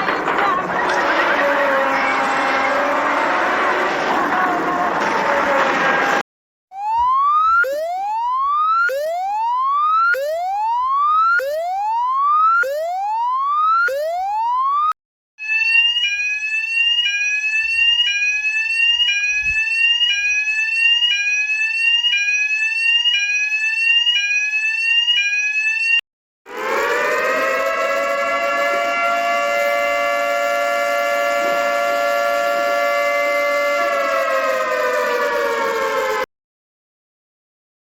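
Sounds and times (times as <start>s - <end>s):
rising whoop siren: 0.0s - 36.3s
siren winding up to a wail: 0.0s - 36.3s.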